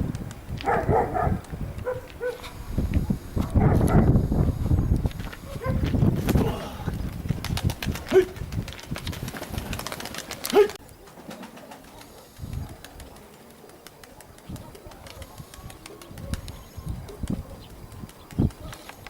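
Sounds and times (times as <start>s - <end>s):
pigeons cooing: 0.6s - 8.6s, 9.4s - 19.0s.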